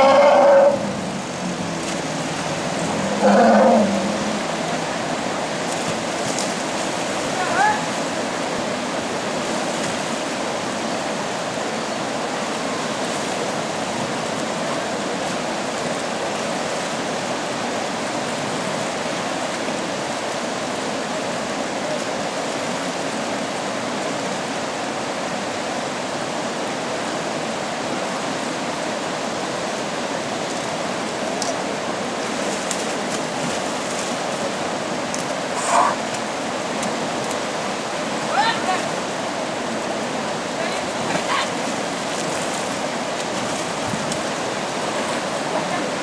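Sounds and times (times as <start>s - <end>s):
river water rushing over rocks: 0.0s - 46.0s.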